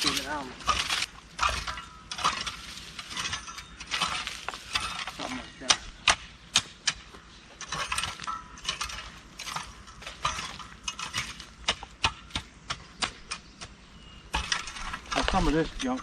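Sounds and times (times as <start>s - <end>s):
rake scraping through dirt: 0.0s - 12.1s, 13.4s - 16.0s.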